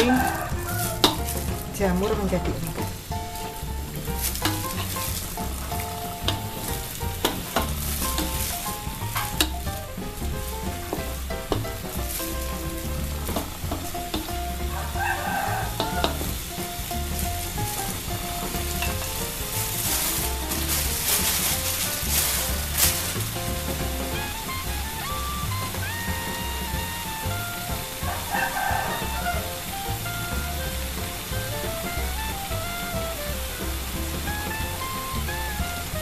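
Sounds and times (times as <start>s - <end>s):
spatula scraping and knocking pan: 0.0s - 31.9s
food sizzling in a wok: 0.0s - 36.0s
soft background music: 0.0s - 36.0s.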